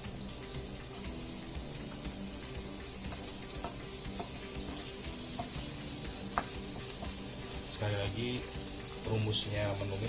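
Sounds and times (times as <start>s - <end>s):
oil sizzling in a frying pan: 0.0s - 10.0s.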